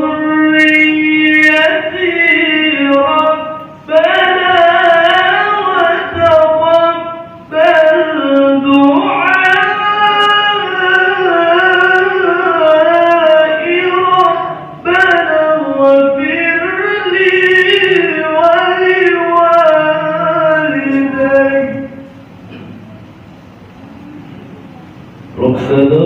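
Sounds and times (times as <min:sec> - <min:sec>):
solo voice chanting melodically: 0:00.0 - 0:22.3.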